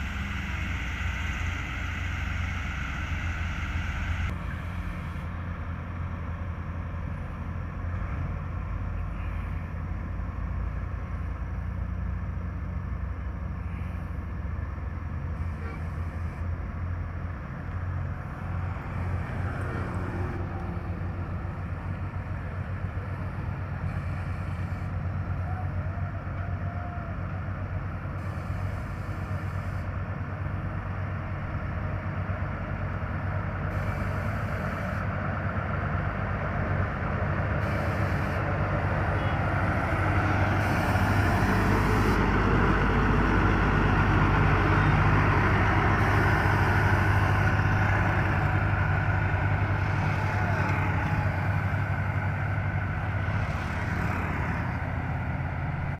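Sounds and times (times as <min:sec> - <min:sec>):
road roller engine drone: 0:00.0 - 0:55.9.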